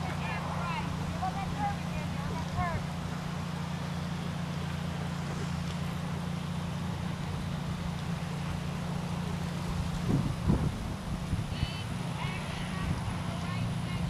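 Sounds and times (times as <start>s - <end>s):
low mechanical hum: 0.0s - 14.0s
rumbling background noise: 0.0s - 14.0s.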